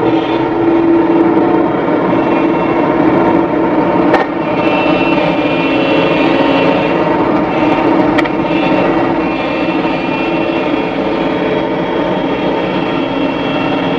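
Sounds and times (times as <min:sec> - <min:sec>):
diesel engines under load: 0:00.0 - 0:13.9.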